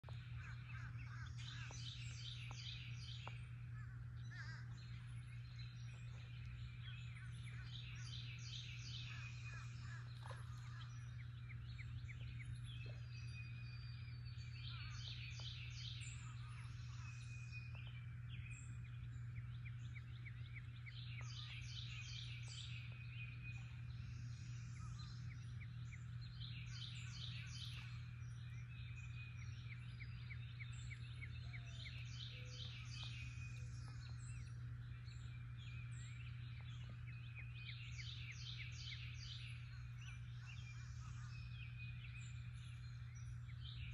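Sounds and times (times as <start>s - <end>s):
birds singing: 0.0s - 43.9s
steady low hum: 0.0s - 43.9s.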